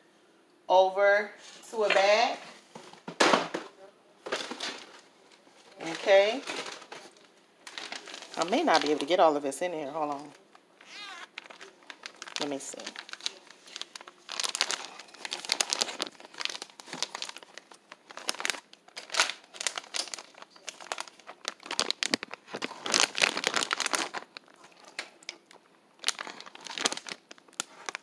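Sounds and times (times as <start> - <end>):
plastic crinkling: 4.2 - 28.0.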